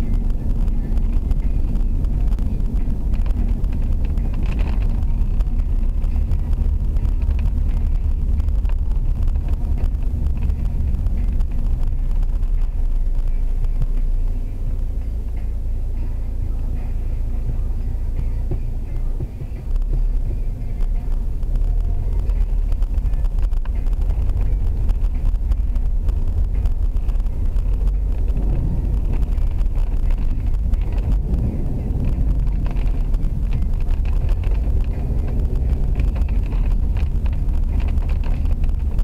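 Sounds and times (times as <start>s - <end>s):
car interior road rumble: 0.0s - 39.0s.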